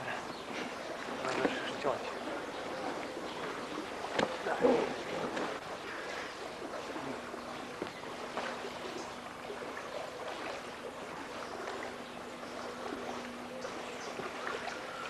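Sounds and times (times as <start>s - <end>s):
faint steady hum: 0.0s - 15.0s
paddle strokes: 0.0s - 15.0s
water splashing: 0.0s - 15.0s.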